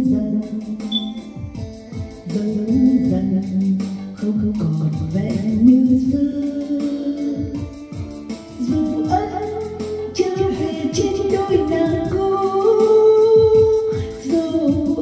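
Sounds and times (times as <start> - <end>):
guitar: 0.0 - 15.0
person singing: 0.0 - 15.0
steady beat: 0.0 - 15.0.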